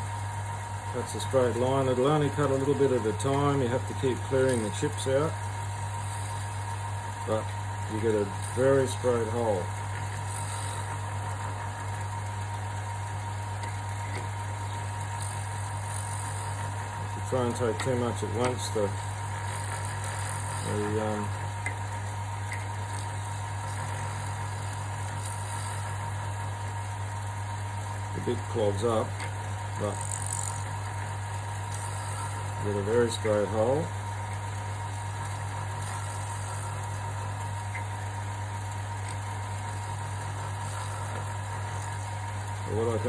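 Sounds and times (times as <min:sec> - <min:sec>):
wood lathe motor hum: 0:00.0 - 0:43.0.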